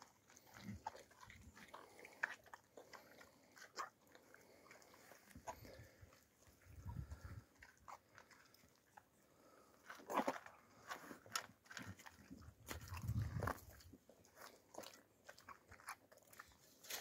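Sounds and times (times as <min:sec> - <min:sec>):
dog chewing food: 0:00.0 - 0:16.8.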